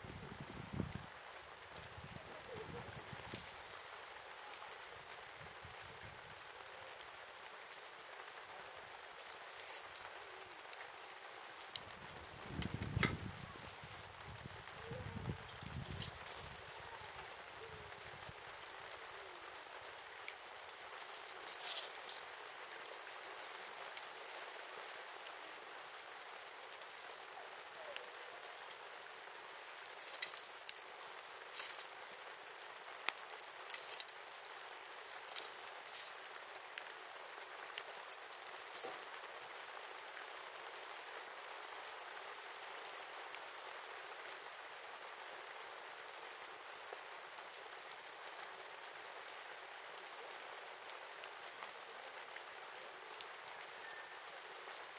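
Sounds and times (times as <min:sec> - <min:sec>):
campfire hissing: 0:00.0 - 0:54.9
fire pops and crackles: 0:00.0 - 0:54.9.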